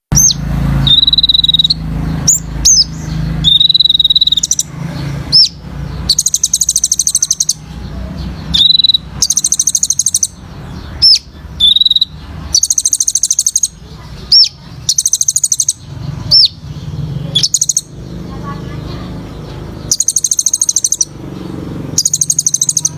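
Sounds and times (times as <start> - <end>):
sunbird singing: 0.0 - 22.9.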